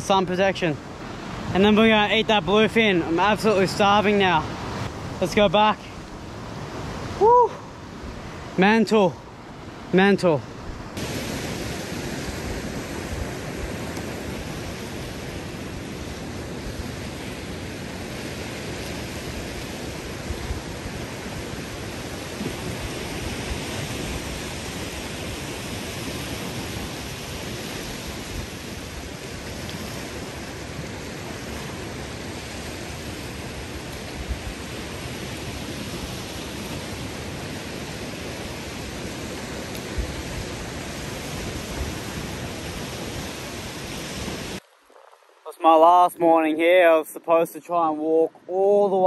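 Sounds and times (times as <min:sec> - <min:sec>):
surf: 0:00.0 - 0:49.0
wind: 0:00.0 - 0:49.0.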